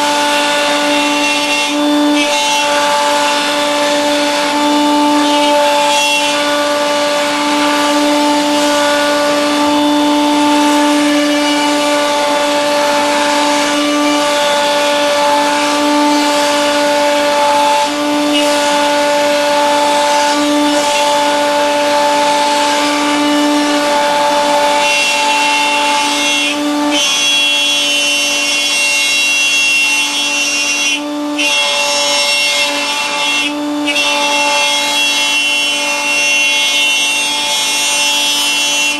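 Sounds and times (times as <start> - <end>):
router bit cutting wood: 0.0 - 38.9
router whining: 0.0 - 38.9.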